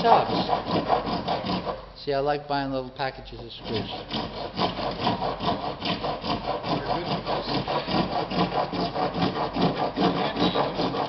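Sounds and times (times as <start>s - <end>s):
wood rasp filing plastic pipe: 0.0s - 1.9s, 3.4s - 11.0s.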